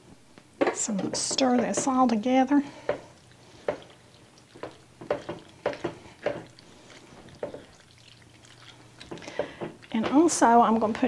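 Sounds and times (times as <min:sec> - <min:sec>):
spatula stirring pasta in sauce: 0:00.8 - 0:11.0.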